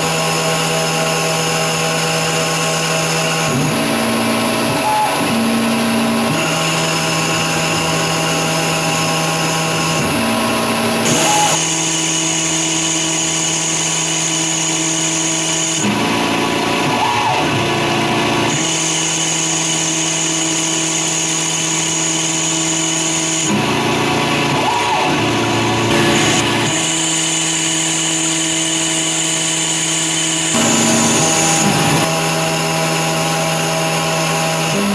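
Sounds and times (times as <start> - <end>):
lathe machine whine: 0.0 - 34.9.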